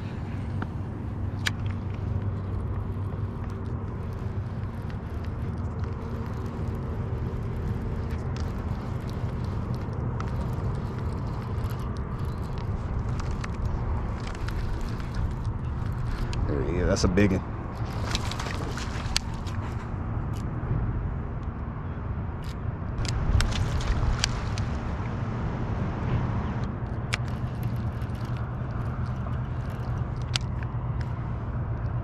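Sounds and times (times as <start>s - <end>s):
boat motor humming: 0.0s - 20.6s, 22.9s - 32.0s.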